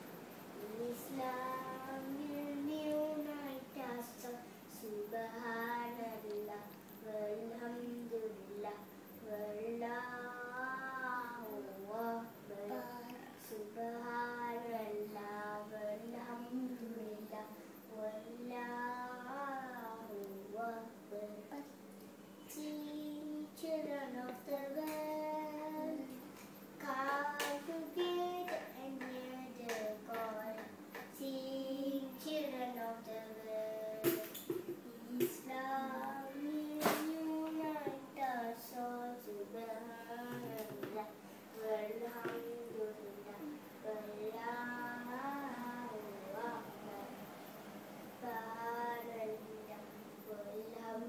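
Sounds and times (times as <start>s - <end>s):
child singing: 0.6s - 21.8s, 22.4s - 47.3s, 48.2s - 51.0s.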